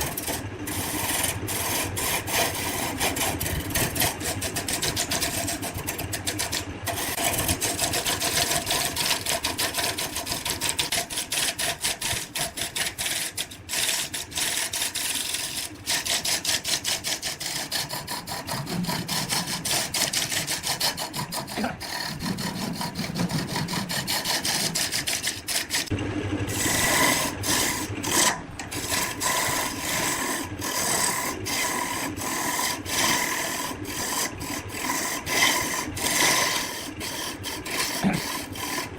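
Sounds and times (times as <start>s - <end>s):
lathe tool scraping spinning wood: 0.0s - 38.9s.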